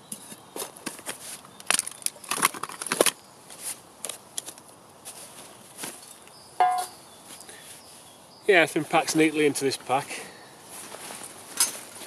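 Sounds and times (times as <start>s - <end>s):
camping gear rustling and crinkling: 0.0s - 8.2s, 10.5s - 12.0s.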